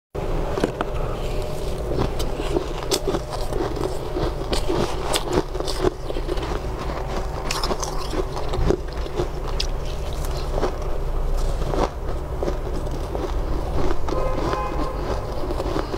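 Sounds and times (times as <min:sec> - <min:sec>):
steady low hum: 0:00.2 - 0:15.9
shaved ice crunching: 0:01.0 - 0:15.9.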